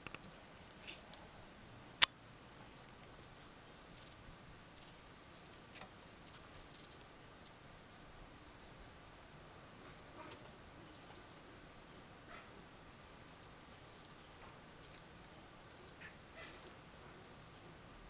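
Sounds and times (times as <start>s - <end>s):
small birds chirping: 0.7s - 1.6s, 2.6s - 9.0s, 9.9s - 17.7s.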